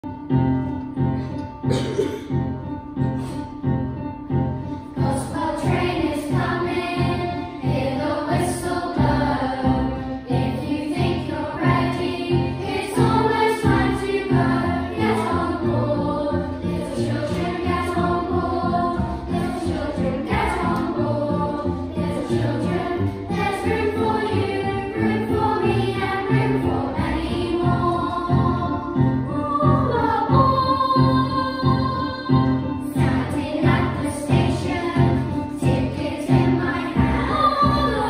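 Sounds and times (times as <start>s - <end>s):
grand piano accompaniment: 0.0s - 38.0s
children's choir singing: 1.2s - 38.0s.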